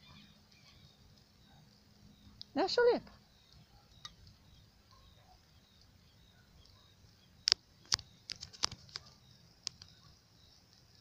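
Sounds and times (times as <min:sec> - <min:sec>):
bonfire wood crackling and popping: 0:00.0 - 0:11.0.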